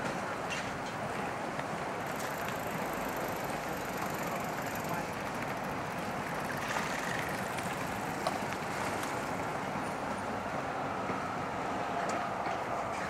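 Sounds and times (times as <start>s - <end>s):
traffic and street noise: 0.0s - 13.0s.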